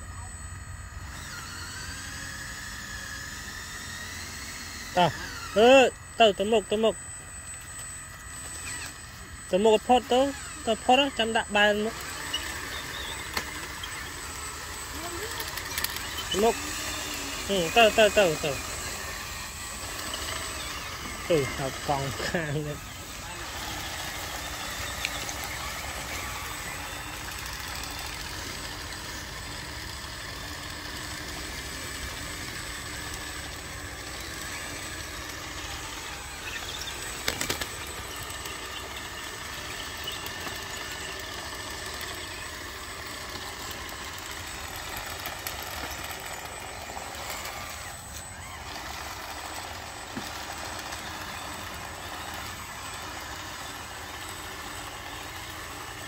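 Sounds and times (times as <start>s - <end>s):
toy trucks humming and whining: 0.0s - 56.0s.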